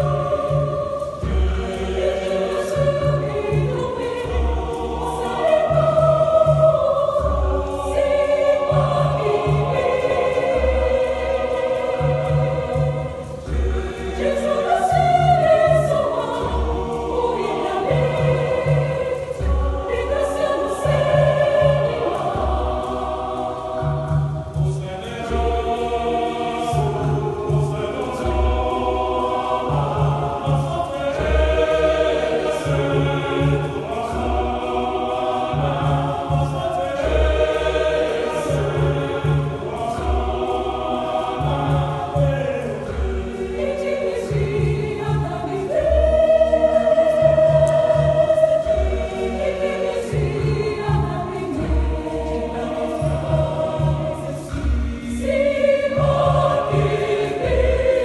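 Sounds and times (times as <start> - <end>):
choir singing in harmony: 0.0 - 58.0.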